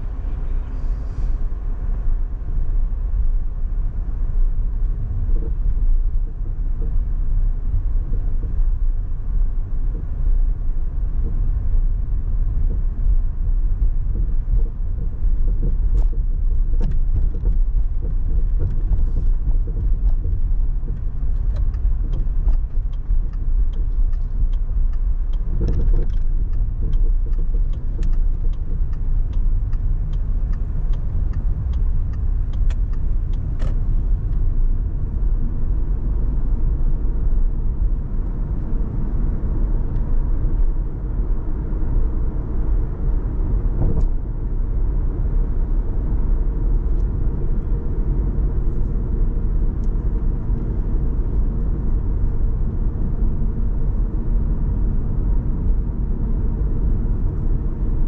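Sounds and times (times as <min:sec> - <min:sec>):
road and tyre noise: 0:00.0 - 0:58.0.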